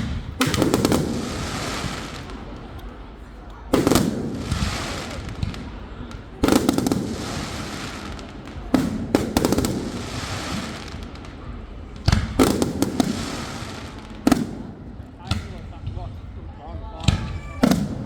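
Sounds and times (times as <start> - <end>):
fireworks bangs and cracks: 0.0 - 18.0
rumbling echo: 0.0 - 18.0.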